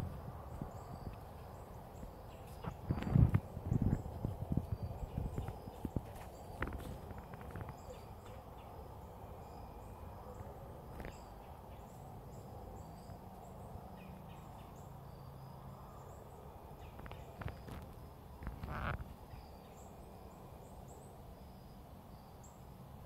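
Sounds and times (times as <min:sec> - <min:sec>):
faint high bird chirps: 0:00.6 - 0:22.6.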